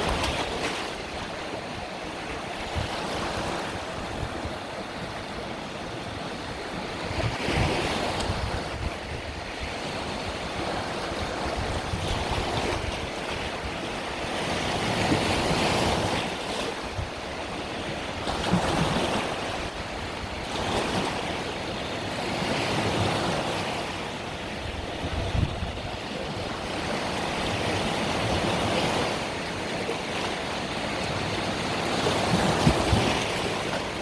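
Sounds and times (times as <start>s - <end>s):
wind buffeting microphone: 0.0s - 5.5s, 6.2s - 21.4s, 22.7s - 29.7s
sea waves breaking on shore: 0.0s - 34.0s.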